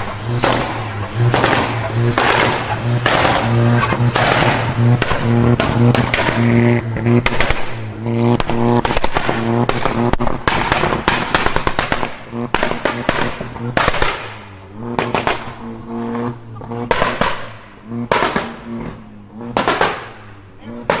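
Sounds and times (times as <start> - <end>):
car engine at steady revs: 0.0 - 21.0
exhaust popping and backfiring: 0.0 - 21.0.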